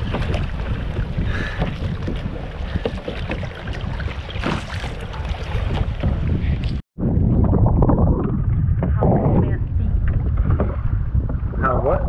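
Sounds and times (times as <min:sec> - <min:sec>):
water splashing against kayak: 0:00.0 - 0:06.8, 0:07.4 - 0:12.0
wind rumbling on microphone: 0:00.0 - 0:12.0.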